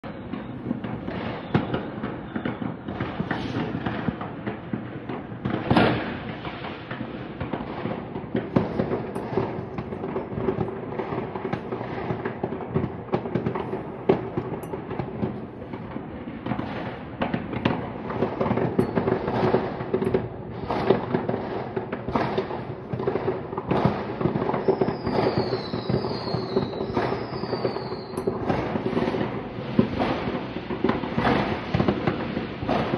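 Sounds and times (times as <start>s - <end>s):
fireworks bangs and crackling: 0.0s - 32.9s
falling firework whistles: 0.1s - 4.2s, 5.6s - 22.8s, 23.7s - 32.9s.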